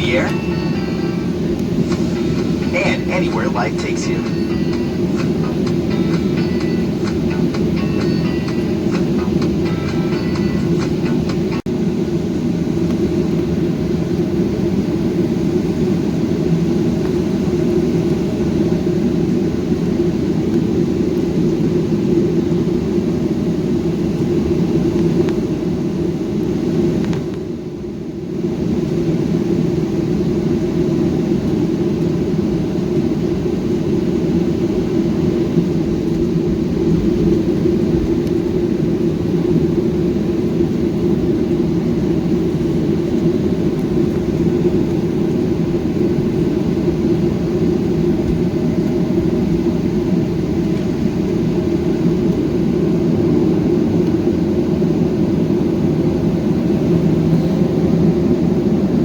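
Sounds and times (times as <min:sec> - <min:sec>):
jet engines rumble and whir: 0:00.0 - 0:59.0.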